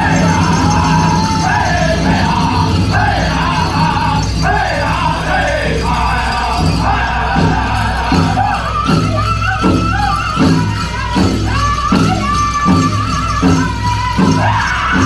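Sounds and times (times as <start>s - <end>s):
big drum beating: 0.0s - 15.0s
men singing high: 0.0s - 15.0s.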